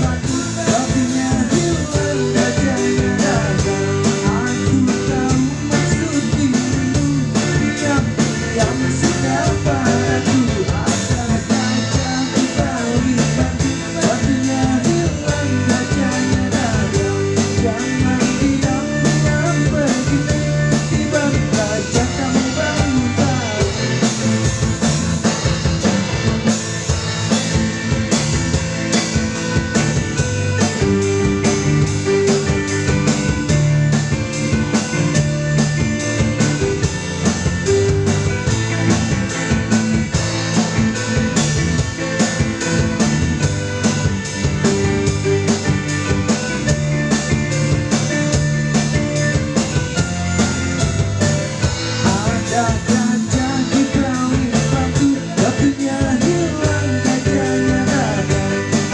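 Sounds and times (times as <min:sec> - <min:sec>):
drum kit beat: 0:00.0 - 0:58.9
electric guitar: 0:00.0 - 0:58.9
electronic keyboard: 0:00.0 - 0:58.9.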